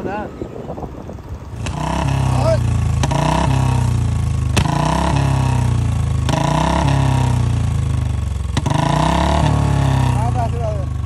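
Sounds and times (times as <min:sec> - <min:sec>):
motorcycle engine revving: 0:01.1 - 0:11.0
exhaust pops: 0:01.5 - 0:11.0.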